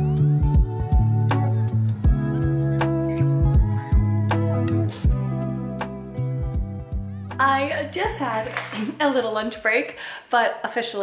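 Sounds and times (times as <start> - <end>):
background music with a beat: 0.0 - 9.0.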